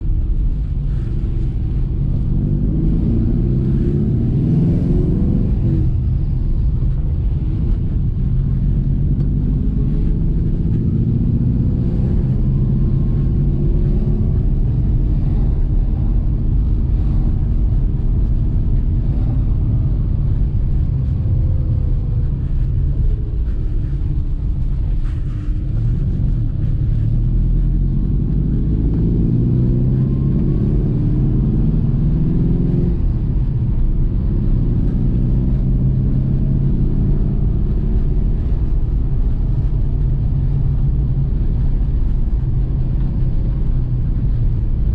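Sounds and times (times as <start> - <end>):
car engine running: 0.0 - 44.9
road rumble: 0.0 - 44.9.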